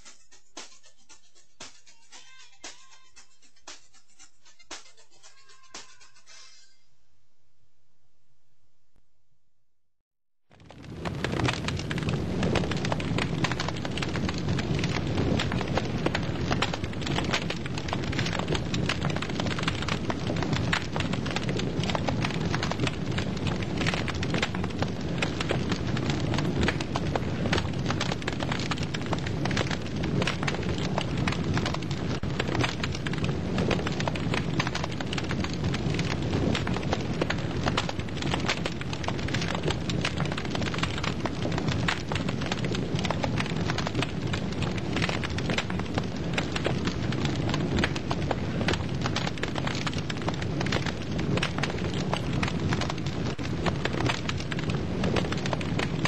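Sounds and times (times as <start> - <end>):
low rumble of flames: 10.5 - 56.0
wood fire crackling: 10.5 - 56.0.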